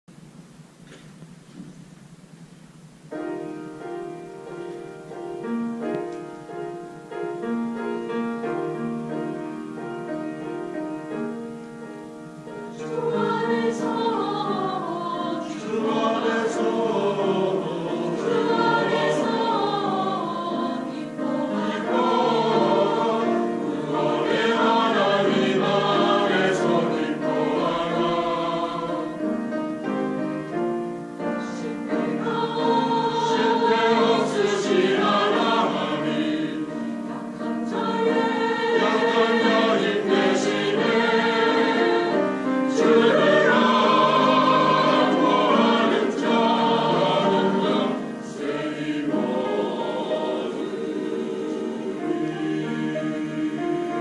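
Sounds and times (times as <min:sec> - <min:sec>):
church choir singing: 0:03.1 - 0:54.0.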